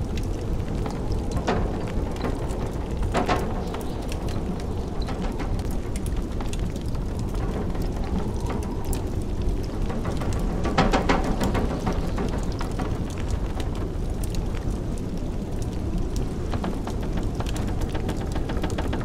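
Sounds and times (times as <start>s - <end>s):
blizzard wind rushing: 0.0s - 19.0s
wood fire crackling and popping: 0.0s - 19.0s.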